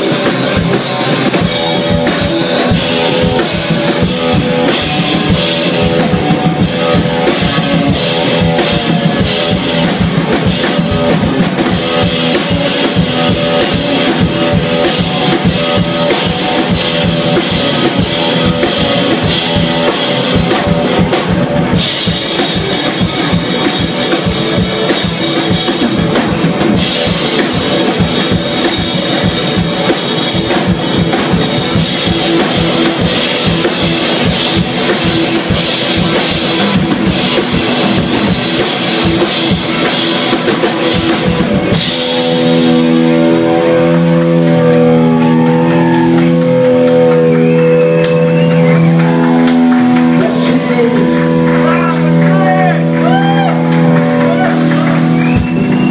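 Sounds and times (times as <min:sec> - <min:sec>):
drum kit with cymbals: 0:00.0 - 0:55.9
electric guitar: 0:00.0 - 0:55.9.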